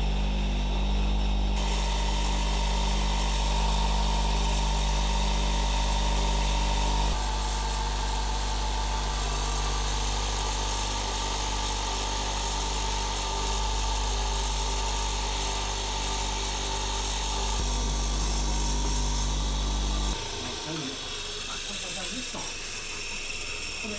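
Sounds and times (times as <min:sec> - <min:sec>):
electric polishing motor humming: 0:00.0 - 0:23.9.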